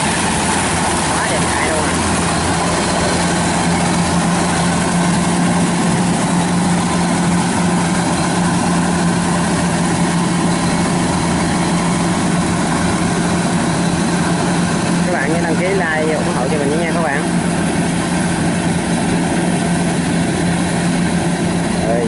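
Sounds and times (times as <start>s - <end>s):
combine harvester engine drone: 0.0s - 22.0s
machinery noise: 0.0s - 22.0s.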